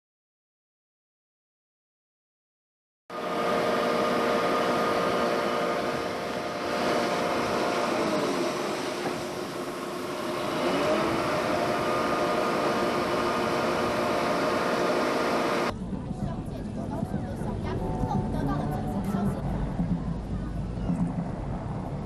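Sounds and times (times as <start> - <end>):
machinery humming and hissing: 3.1 - 22.0.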